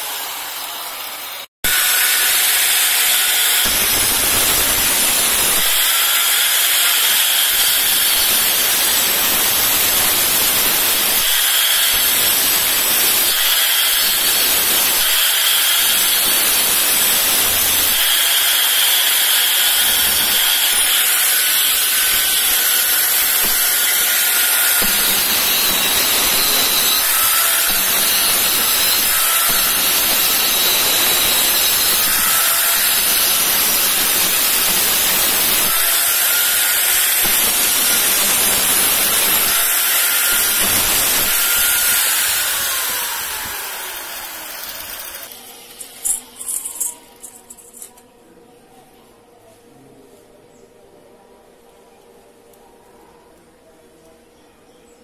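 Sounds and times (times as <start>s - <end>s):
angle grinder cutting steel: 0.0s - 48.0s.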